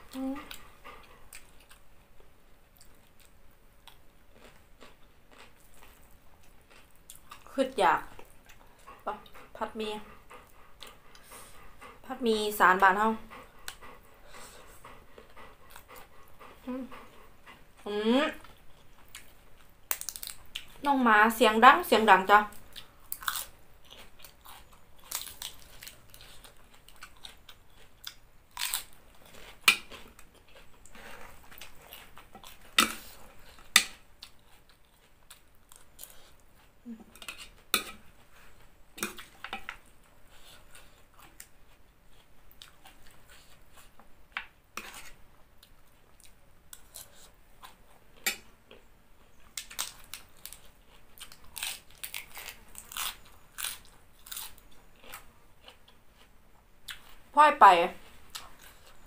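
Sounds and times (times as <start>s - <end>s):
chewing and crunching food: 0.0s - 57.3s, 57.9s - 59.0s.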